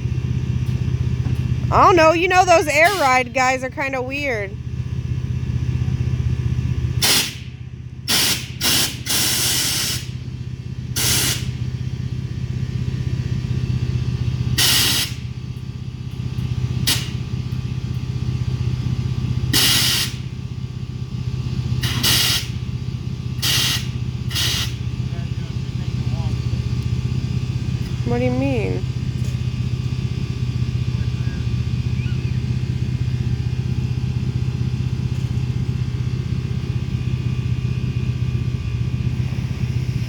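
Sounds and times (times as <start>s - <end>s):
engine humming: 0.0s - 40.0s.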